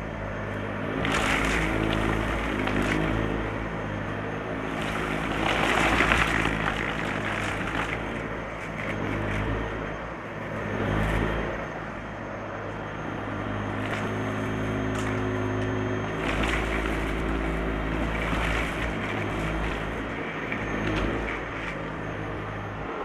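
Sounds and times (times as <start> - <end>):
debris crunching in vacuum: 0.3 - 10.0, 13.4 - 22.6.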